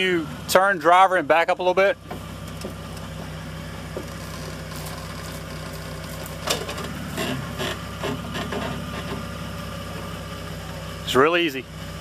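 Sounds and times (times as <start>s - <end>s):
engine idling at low revs: 0.0s - 12.0s.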